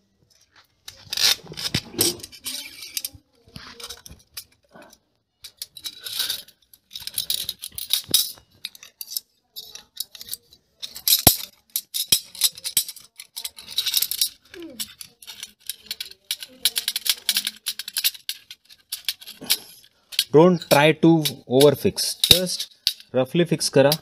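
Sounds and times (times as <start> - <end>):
metal rods clinking and scraping: 0.2 - 24.0.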